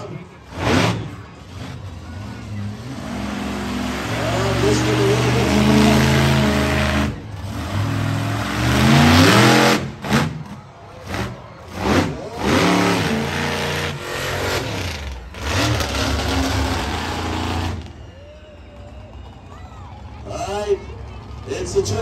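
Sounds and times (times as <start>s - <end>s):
truck engine revving: 0.0s - 19.4s.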